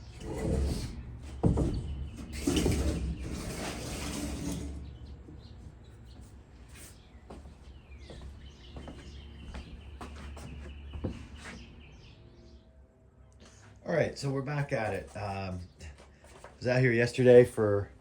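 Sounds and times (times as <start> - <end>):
birds chirping: 0.0 - 3.2, 4.6 - 18.0.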